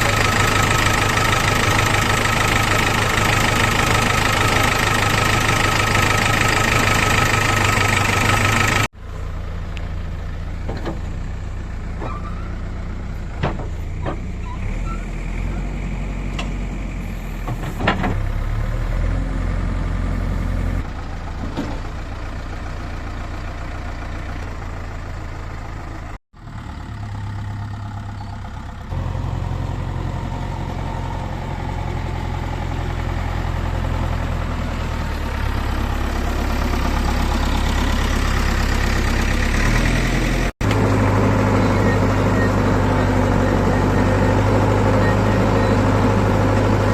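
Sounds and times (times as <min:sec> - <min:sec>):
diesel engine of heavy machinery: 0:00.0 - 0:46.9.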